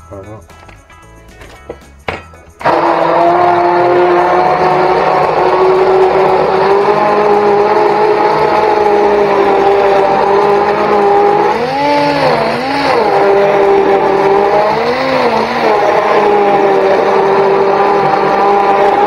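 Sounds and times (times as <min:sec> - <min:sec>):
immersion blender whining: 0:02.6 - 0:19.0.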